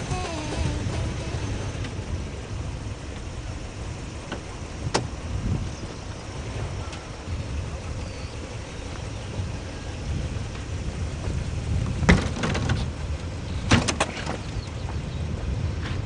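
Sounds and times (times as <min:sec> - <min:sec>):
low rumble: 0:00.0 - 0:13.4.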